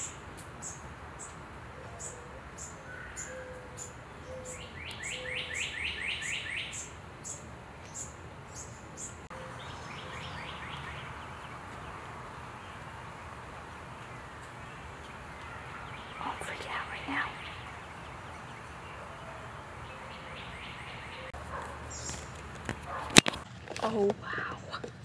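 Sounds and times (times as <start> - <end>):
birdsong with downward-slurred notes: 0.0 - 22.4
steady outdoor hiss: 0.0 - 25.0.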